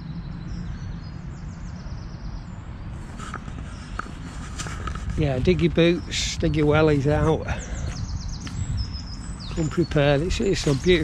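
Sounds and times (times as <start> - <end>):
robin singing: 0.0 - 11.0
steady low rumble: 0.0 - 11.0.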